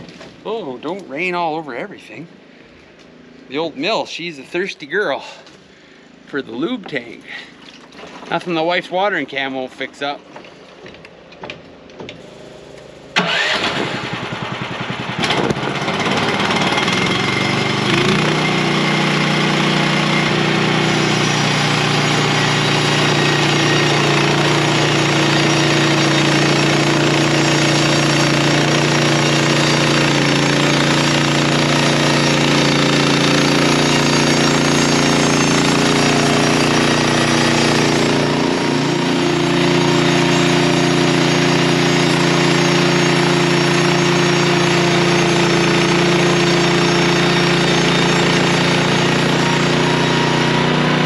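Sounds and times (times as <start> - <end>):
gas engine starting and running: 0.0 - 51.0.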